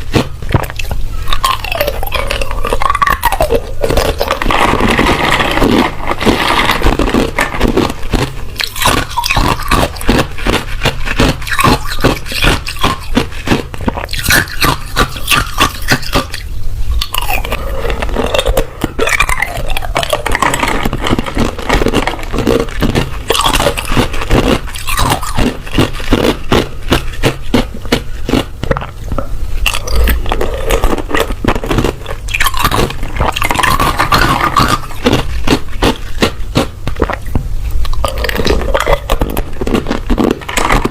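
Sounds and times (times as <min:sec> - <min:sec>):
person crunching ice: 0:00.0 - 0:16.4, 0:17.0 - 0:28.9, 0:29.7 - 0:37.2, 0:37.9 - 0:40.9.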